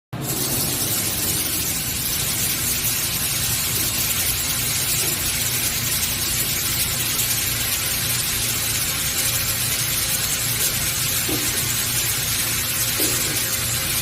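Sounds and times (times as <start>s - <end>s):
machine hiss: 0.2s - 14.0s.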